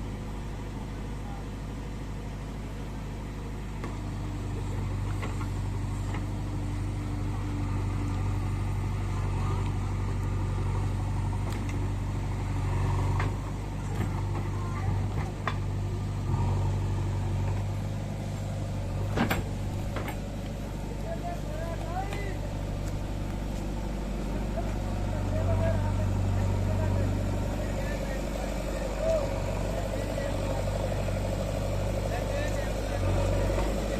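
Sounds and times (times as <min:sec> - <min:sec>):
heavy diesel engine running: 0:00.0 - 0:33.9.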